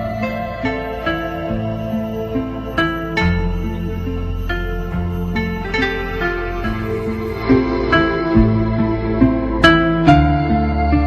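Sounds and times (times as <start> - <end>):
slow gentle instrumental music: 0.0 - 11.0.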